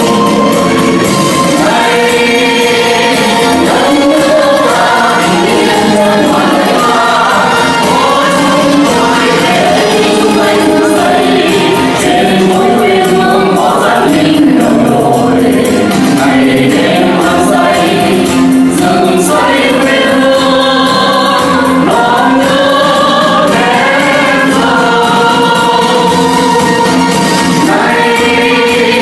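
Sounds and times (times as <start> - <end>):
mixed vocal group singing: 0.0 - 29.0
music: 0.0 - 29.0.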